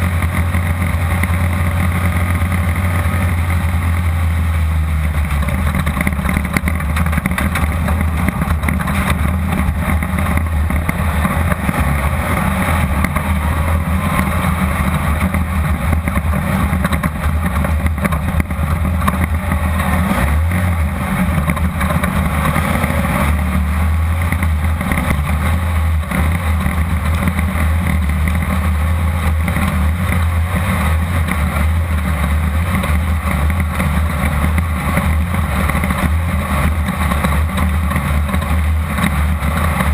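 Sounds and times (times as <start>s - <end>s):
buggy engine running hard: 0.0s - 39.9s
chassis rattling and knocking: 5.0s - 39.9s.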